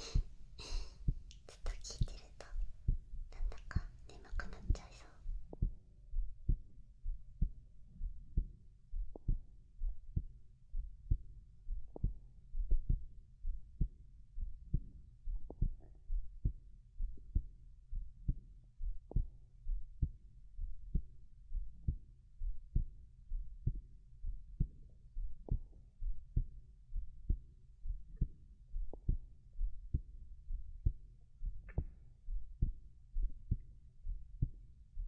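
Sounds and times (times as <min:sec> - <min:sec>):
heartbeat thumps: 0:00.0 - 0:35.0.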